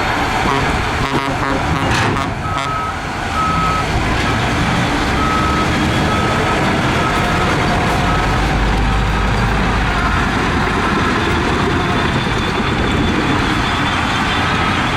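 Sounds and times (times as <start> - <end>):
heavy diesel machinery running: 0.0 - 14.9
reversing alarm beeping: 1.8 - 14.9.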